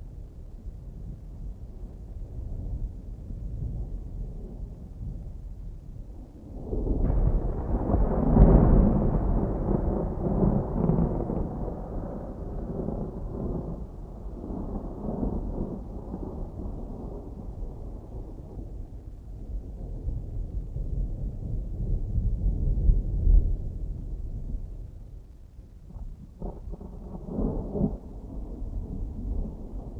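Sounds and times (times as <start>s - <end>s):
distant thunder rumbling: 1.5s - 25.3s, 25.9s - 29.9s.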